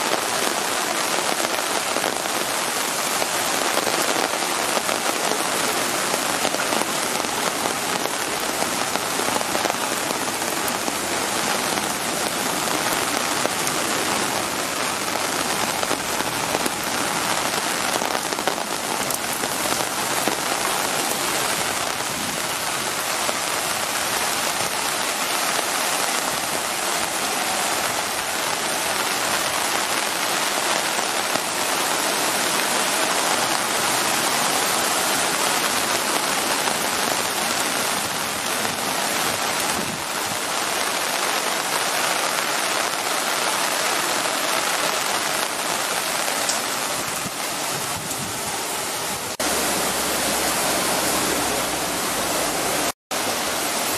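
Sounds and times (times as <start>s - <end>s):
rain falling on water: 0.0s - 53.9s.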